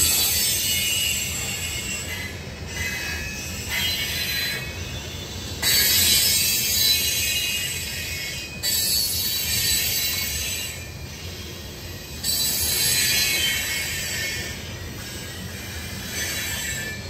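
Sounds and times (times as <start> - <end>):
train cars rumbling past: 0.0 - 17.0
wheels squealing on rail: 0.0 - 17.0.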